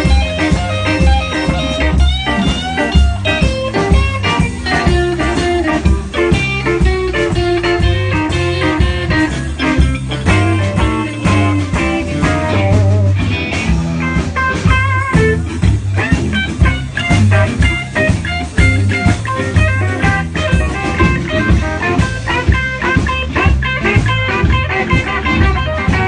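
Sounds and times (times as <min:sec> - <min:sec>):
bass: 0:00.0 - 0:26.0
drums with steady beat: 0:00.0 - 0:26.0
lead guitar solo: 0:00.0 - 0:26.0.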